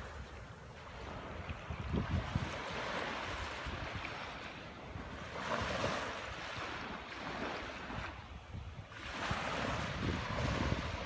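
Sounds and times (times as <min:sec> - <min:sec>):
waves lapping on sandy beach: 0:00.0 - 0:11.0.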